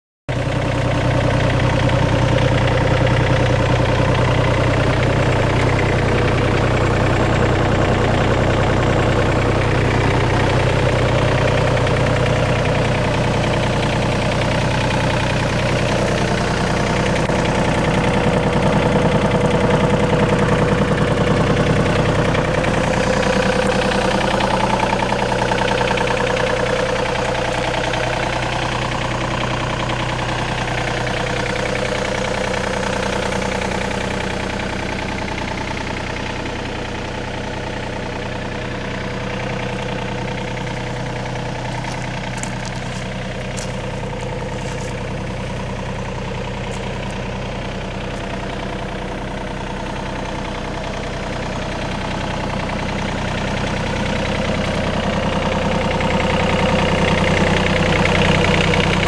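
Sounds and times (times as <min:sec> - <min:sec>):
diesel engine idling: 0:00.3 - 0:59.0.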